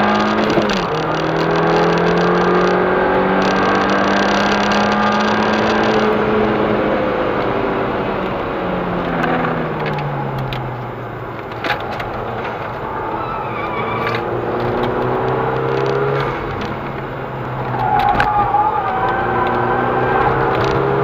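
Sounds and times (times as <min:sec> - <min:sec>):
car engine: 0:00.0 - 0:21.0
tyre and road noise: 0:00.0 - 0:21.0.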